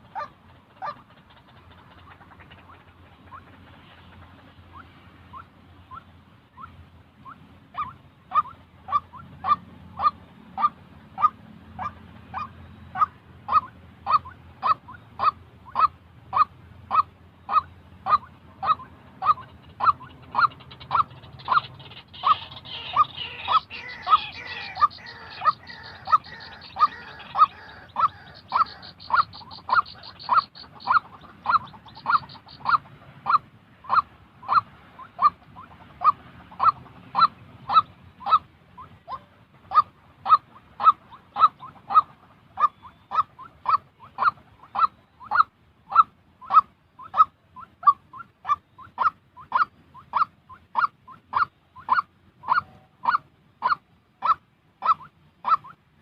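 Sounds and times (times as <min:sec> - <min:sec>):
waterhen calling: 0:00.0 - 0:55.9.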